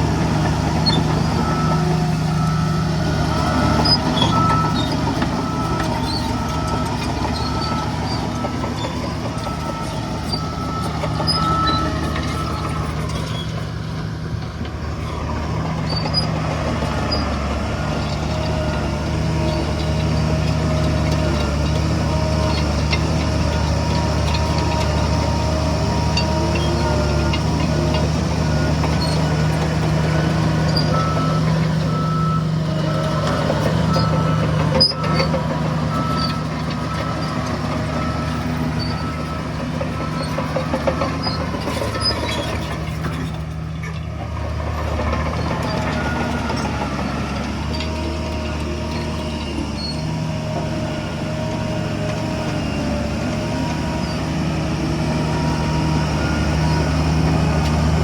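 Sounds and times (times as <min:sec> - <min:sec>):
reversing alarm beeping: 0:00.0 - 0:43.3, 0:44.7 - 0:48.4, 0:55.1 - 0:58.0
heavy diesel machinery running: 0:00.0 - 0:58.0.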